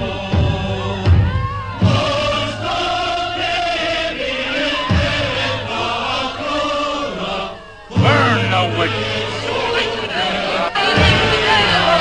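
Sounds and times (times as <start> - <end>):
crowd chanting: 0.0 - 12.0.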